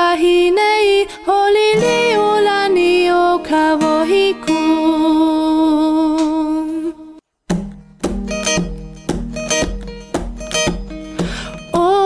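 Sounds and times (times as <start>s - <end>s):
plucked acoustic guitar: 1.5s - 6.8s, 7.5s - 12.0s.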